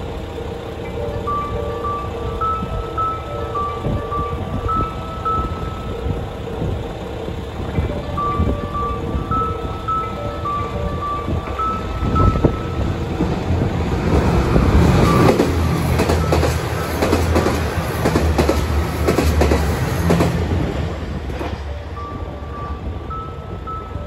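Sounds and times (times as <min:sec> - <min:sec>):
diesel train engine rumble: 0:00.0 - 0:24.0
train wheels clicking over rail joints: 0:00.0 - 0:24.0.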